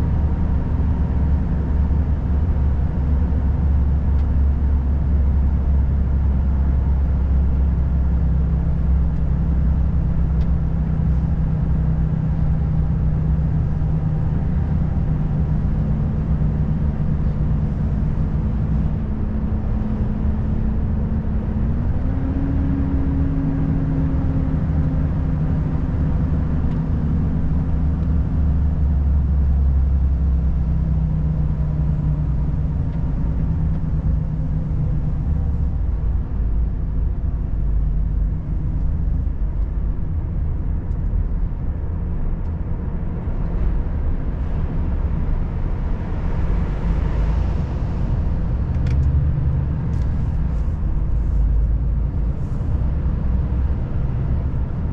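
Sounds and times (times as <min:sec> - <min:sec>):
diesel truck engine running: 0:00.0 - 0:54.9
road noise: 0:00.0 - 0:54.9.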